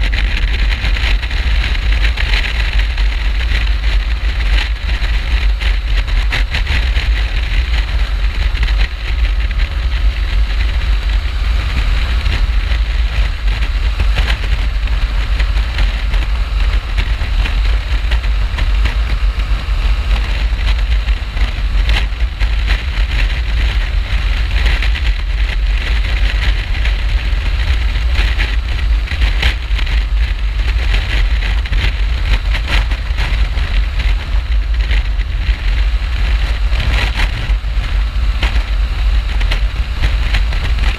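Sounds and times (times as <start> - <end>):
motorcycle engine running: 0.0 - 40.9
road rumble: 0.0 - 40.9
wind rush on microphone: 0.0 - 40.9.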